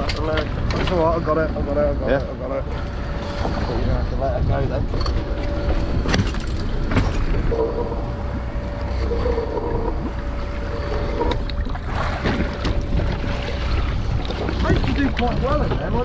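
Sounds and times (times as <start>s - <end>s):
small boat engine running: 0.0s - 16.0s
thin whine: 0.0s - 16.0s.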